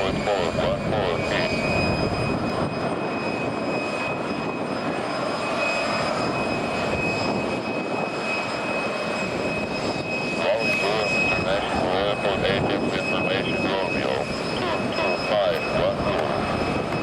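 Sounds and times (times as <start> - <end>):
jet engines rushing and whining: 0.0 - 17.0.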